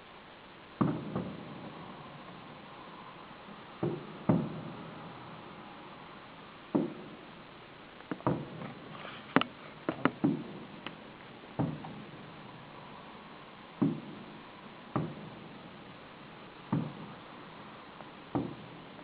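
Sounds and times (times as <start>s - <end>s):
fireworks exploding: 0.0s - 19.0s.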